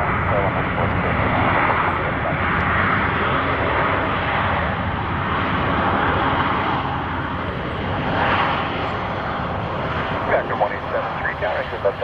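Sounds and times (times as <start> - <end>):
airliner engine rushing: 0.0 - 12.0.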